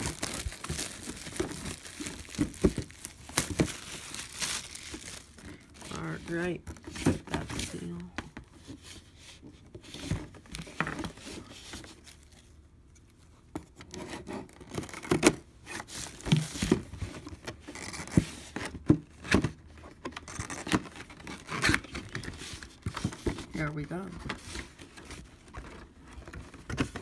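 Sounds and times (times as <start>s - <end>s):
cardboard scraping and rustling: 0.0s - 12.4s, 13.6s - 27.0s.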